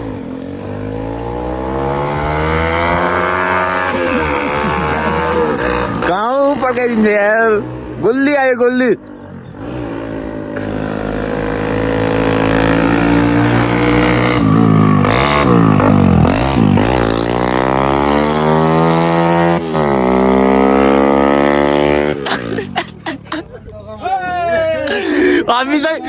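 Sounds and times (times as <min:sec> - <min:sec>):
motorcycle engine revving: 0:00.0 - 0:23.6.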